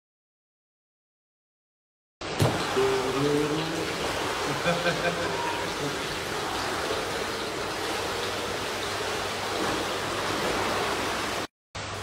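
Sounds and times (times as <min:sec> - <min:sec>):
running water rushing: 0:02.2 - 0:12.0.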